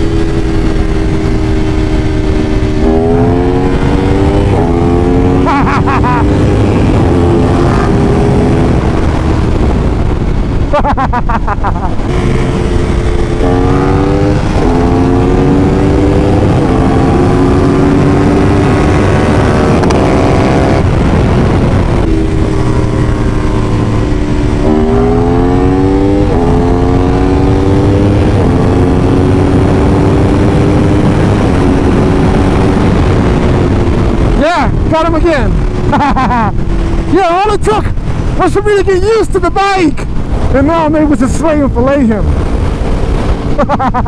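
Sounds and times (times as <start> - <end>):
motorcycle engines revving: 0.0 - 44.0
wind rushing on microphone: 0.0 - 44.0.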